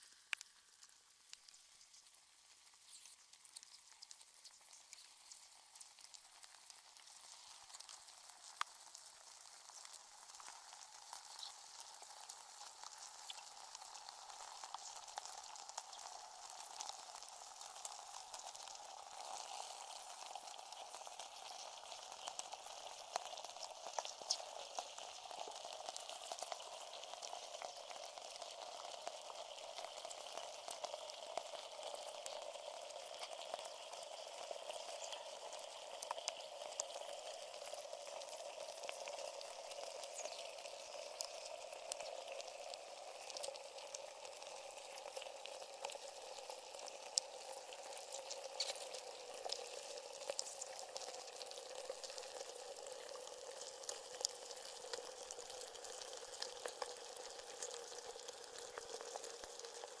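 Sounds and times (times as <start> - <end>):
crackling hiss: 0.0 - 60.0.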